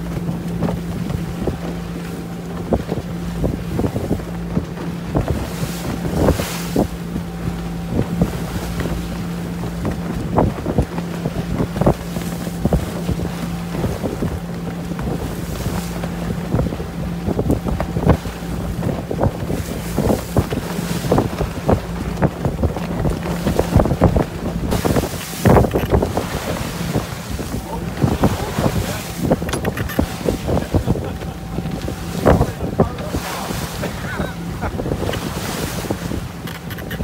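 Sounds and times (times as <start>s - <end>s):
water splashing along hull: 0.0s - 37.0s
wind buffeting microphone: 0.0s - 37.0s.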